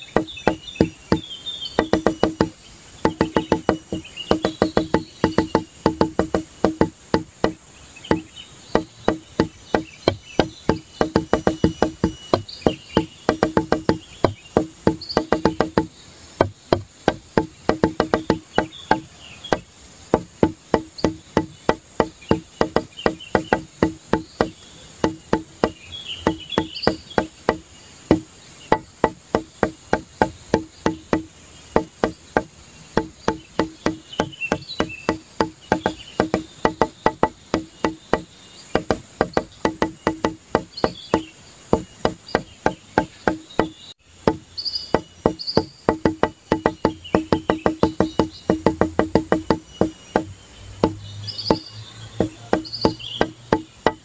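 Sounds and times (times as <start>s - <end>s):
steady high hiss: 0.0s - 54.0s
music with woody plucked beat: 1.8s - 54.0s.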